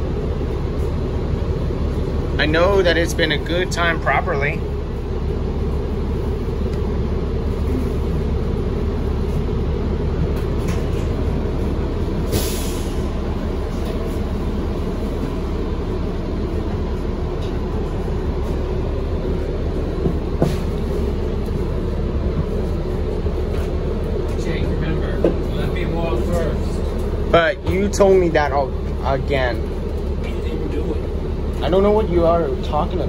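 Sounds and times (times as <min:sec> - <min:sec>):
bus engine drone: 0:00.0 - 0:33.0
road noise: 0:00.0 - 0:33.0.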